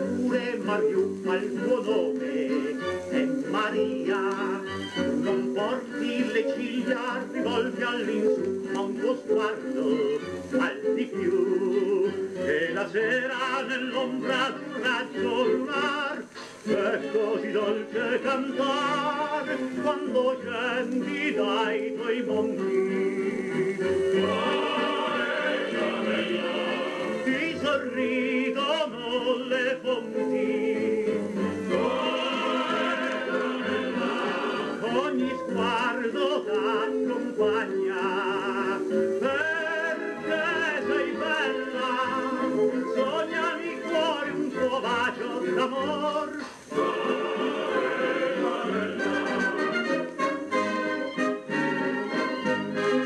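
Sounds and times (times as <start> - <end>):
orchestral music with voices: 0.0 - 53.0.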